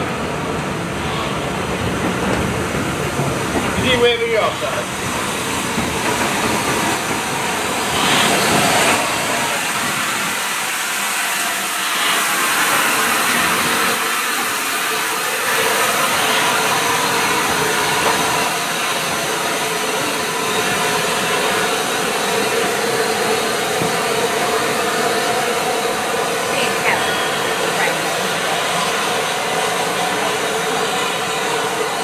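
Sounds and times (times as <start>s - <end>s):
steam hissing from locomotive: 0.0s - 32.0s.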